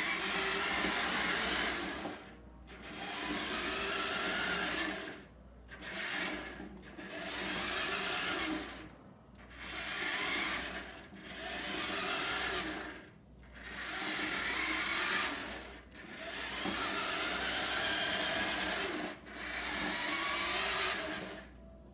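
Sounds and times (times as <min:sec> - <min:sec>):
small electric motor whirring: 0:00.0 - 0:21.5.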